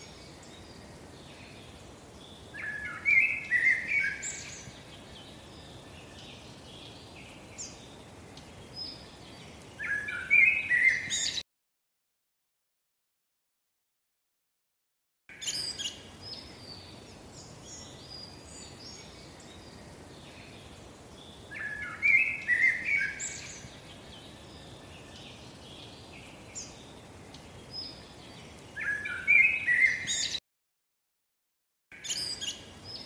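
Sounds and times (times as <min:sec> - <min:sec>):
faint outdoor hiss: 0:00.0 - 0:11.4, 0:15.3 - 0:30.4, 0:32.0 - 0:33.0
small birds chirping and singing: 0:00.0 - 0:11.4, 0:15.3 - 0:30.4, 0:31.9 - 0:33.0.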